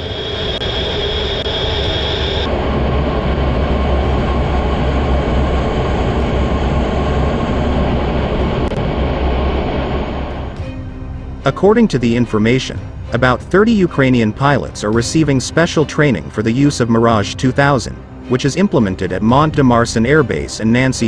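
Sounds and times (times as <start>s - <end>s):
high whine: 0.0s - 21.0s
jet engine rumble: 0.0s - 21.0s.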